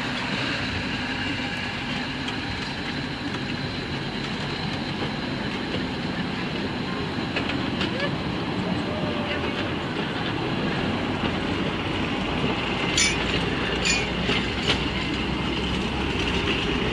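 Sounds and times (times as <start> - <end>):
train wheels rolling on rails: 0.0 - 16.9.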